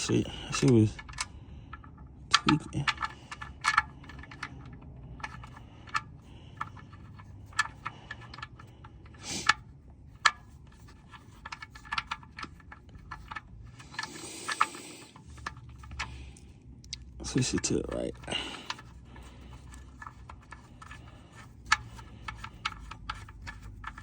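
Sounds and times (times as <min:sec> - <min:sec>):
metal clatter: 0:00.0 - 0:16.5, 0:17.2 - 0:24.0.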